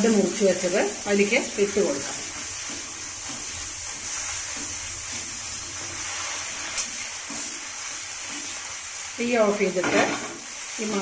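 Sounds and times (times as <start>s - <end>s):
paste sizzling in a pan: 0.0s - 11.0s
spatula stirring: 0.0s - 11.0s.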